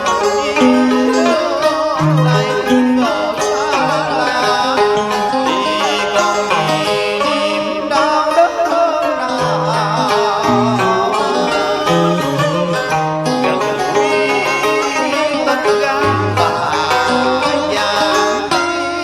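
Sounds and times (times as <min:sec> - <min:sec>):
plucked strings melody: 0:00.0 - 0:19.0.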